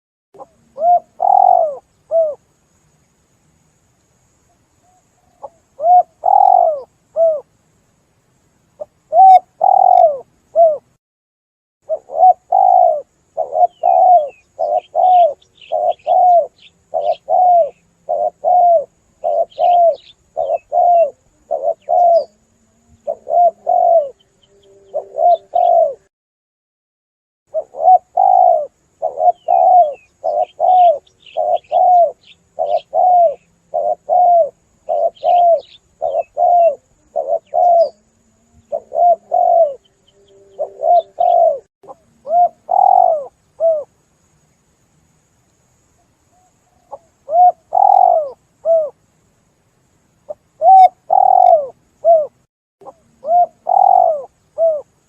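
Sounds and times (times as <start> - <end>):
doves cooing: 0.4 - 2.4, 5.2 - 7.5, 8.8 - 10.9, 11.9 - 26.1, 27.5 - 43.9, 46.4 - 49.0, 50.3 - 54.9
small bird chirping: 0.4 - 3.2, 4.0 - 7.5, 8.7 - 11.0, 11.8 - 26.1, 27.5 - 44.7, 45.5 - 49.0, 50.2 - 55.0.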